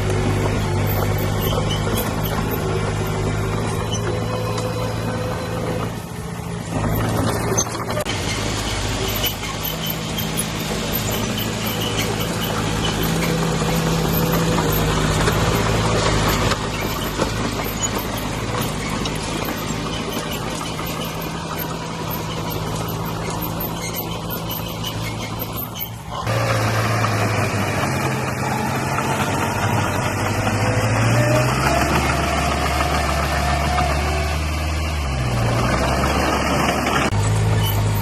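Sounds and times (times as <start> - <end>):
bulldozer diesel engine: 0.0 - 38.0.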